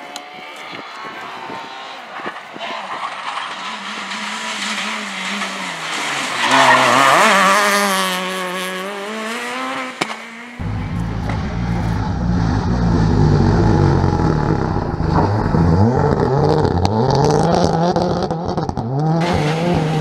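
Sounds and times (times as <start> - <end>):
rally car passing at speed: 0.2 - 20.0.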